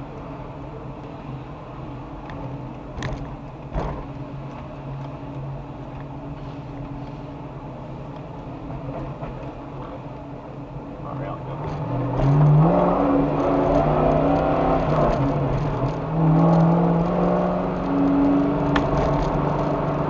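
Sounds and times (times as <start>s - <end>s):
car engine running at low speed: 0.0s - 20.0s.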